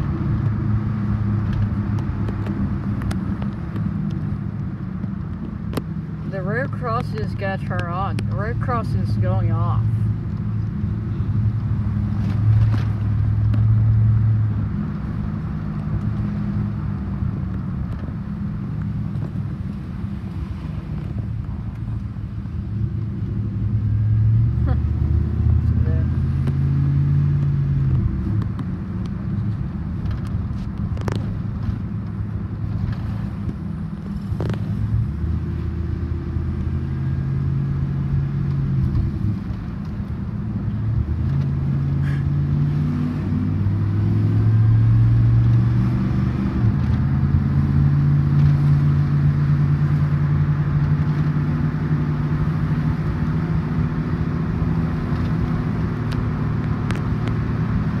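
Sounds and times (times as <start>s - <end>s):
car engine hum: 0.0s - 58.0s
tyres on wet road: 0.0s - 58.0s.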